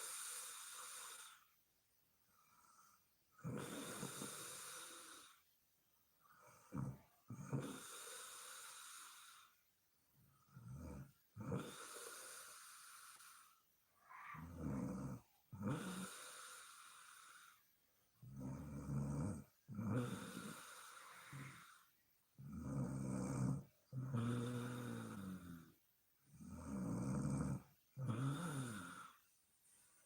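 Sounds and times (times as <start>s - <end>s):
woman snoring: 0.0s - 1.5s, 3.4s - 5.4s, 6.3s - 9.6s, 10.5s - 17.6s, 18.2s - 29.2s.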